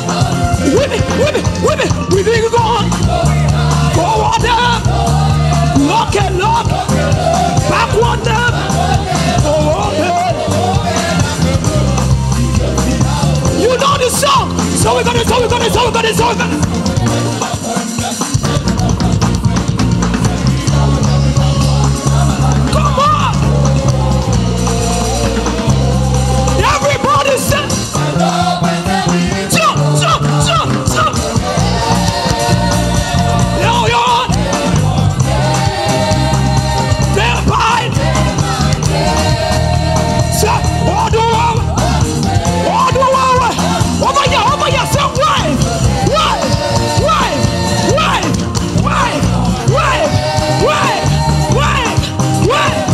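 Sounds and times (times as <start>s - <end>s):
band playing instrumental: 0.0s - 52.9s
fast busy drum kit: 0.0s - 52.9s
steady bass line: 0.0s - 52.9s
voices singing: 0.0s - 52.9s.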